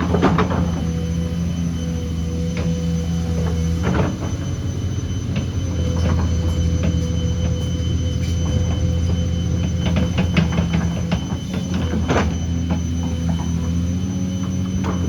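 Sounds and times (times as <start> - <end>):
diesel engine running: 0.0 - 15.0
metallic squeals and clanks: 0.0 - 15.0.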